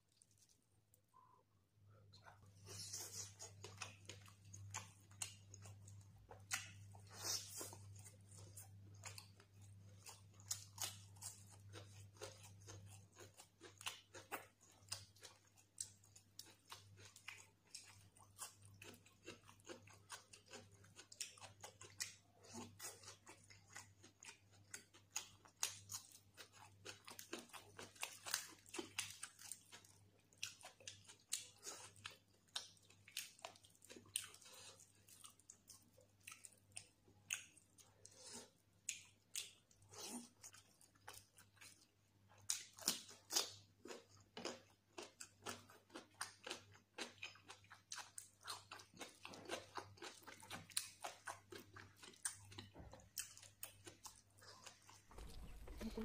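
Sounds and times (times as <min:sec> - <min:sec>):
chewing crunchy fried fish: 0:02.3 - 0:56.0.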